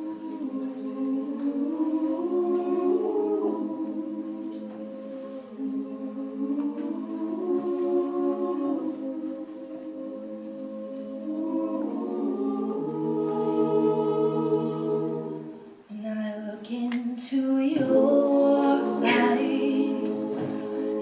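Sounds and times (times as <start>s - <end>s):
women singing in harmony: 0.0s - 21.0s.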